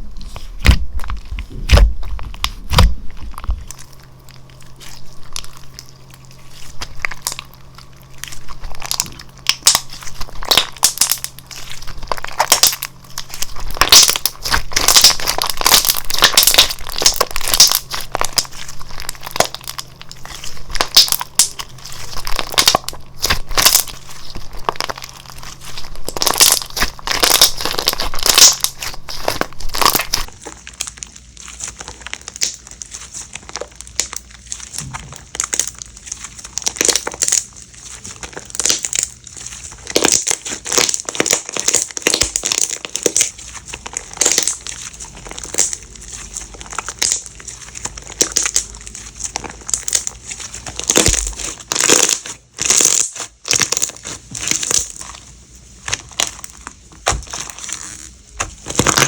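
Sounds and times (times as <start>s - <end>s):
slime squished by hand: 0.0s - 59.0s.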